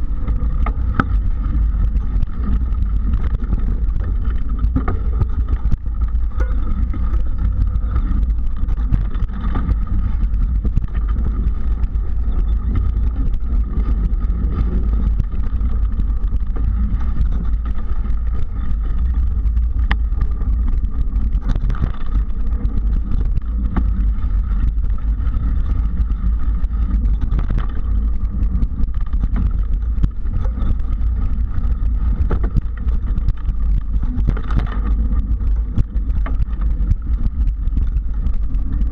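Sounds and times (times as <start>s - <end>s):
bike knocks and rattles: 0.0s - 38.9s
wind rumble on microphone: 0.0s - 38.9s.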